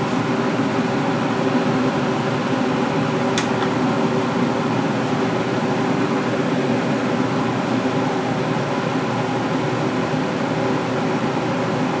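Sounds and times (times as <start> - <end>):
exhaust fan running: 0.0 - 12.0.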